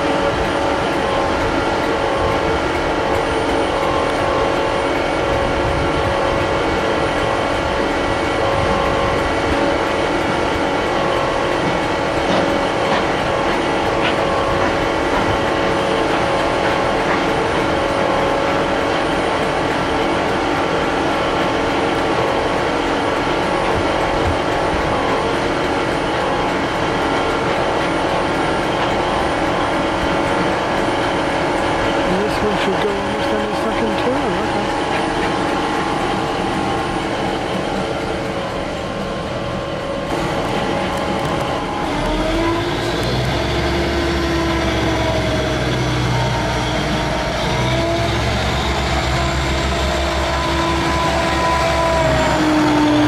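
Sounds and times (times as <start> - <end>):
diesel train engines idling: 0.0 - 53.0.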